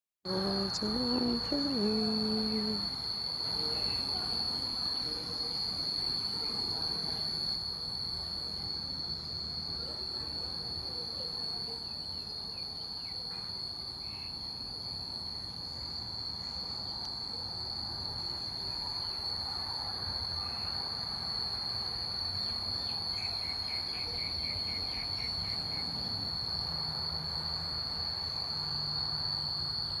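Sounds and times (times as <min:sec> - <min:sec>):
insects droning: 0:00.3 - 0:30.0.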